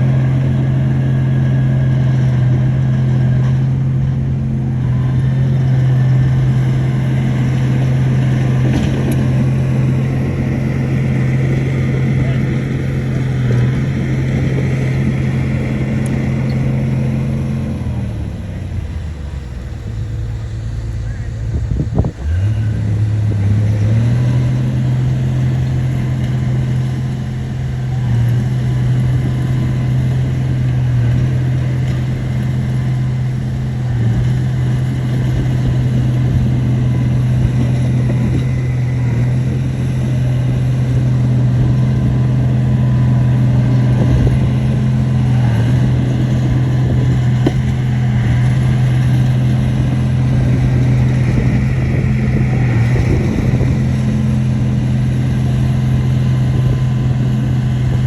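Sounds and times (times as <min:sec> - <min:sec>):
diesel engine running at high speed: 0:00.0 - 0:58.0.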